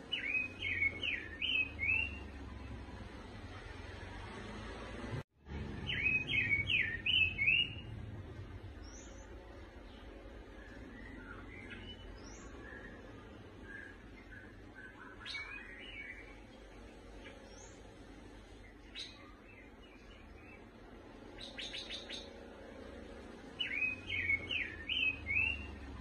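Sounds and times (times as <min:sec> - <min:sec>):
lovebird chirping: 0:00.0 - 0:02.8, 0:05.8 - 0:22.4, 0:23.5 - 0:26.0.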